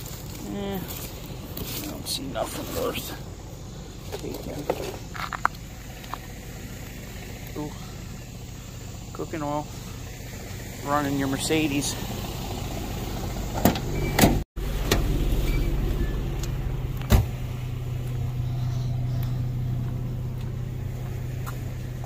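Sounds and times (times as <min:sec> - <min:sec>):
pickup truck engine idling: 0:00.0 - 0:22.0.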